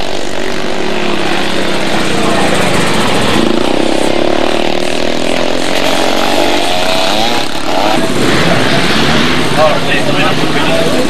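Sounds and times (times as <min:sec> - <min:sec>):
motorcycle engines accelerating: 0:00.0 - 0:11.0.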